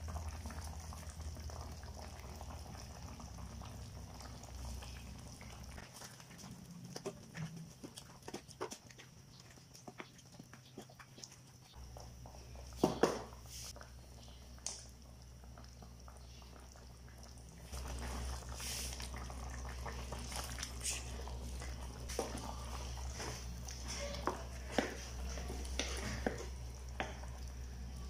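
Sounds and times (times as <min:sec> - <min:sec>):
bubbling liquid: 0:00.0 - 0:28.0
low steady hum: 0:00.0 - 0:28.0.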